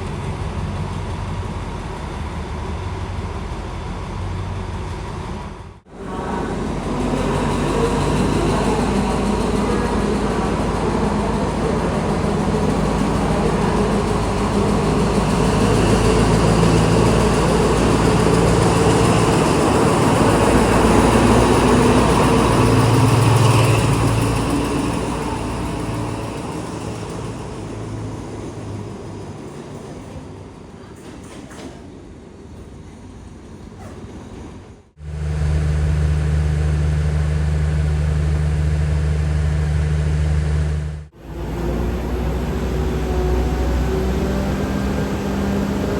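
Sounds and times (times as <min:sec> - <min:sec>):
diesel train engine running: 0:00.0 - 0:45.9.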